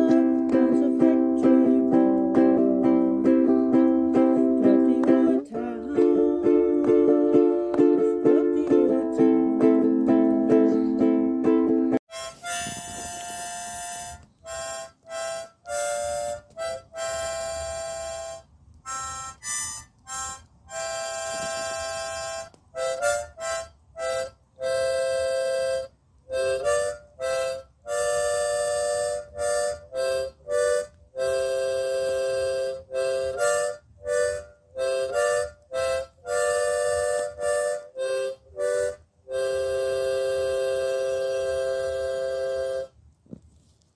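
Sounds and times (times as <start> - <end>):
harmonica notes and chords: 0.0 - 43.0.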